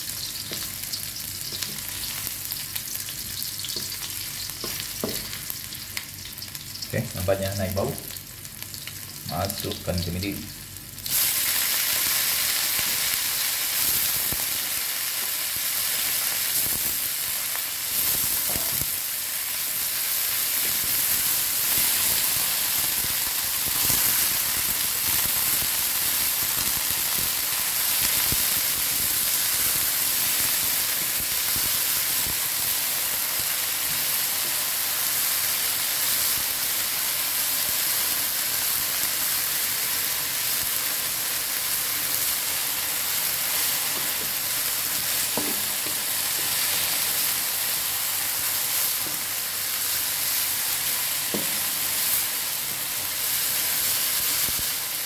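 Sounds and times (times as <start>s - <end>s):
greens sizzling in a wok: 0.0s - 55.0s.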